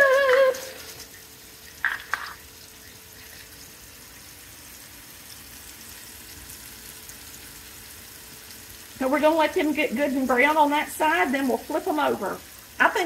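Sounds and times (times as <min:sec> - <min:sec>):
patties sizzling in a skillet: 0:00.0 - 0:13.0.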